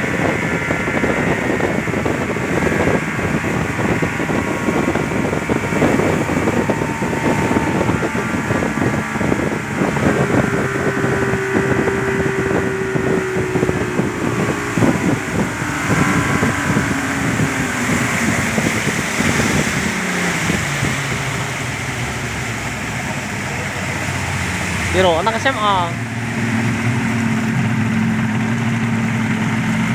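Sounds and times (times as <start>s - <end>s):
speedboat engine running: 0.0s - 29.9s
water rushing along hull: 0.0s - 29.9s
wind on microphone: 0.0s - 29.9s.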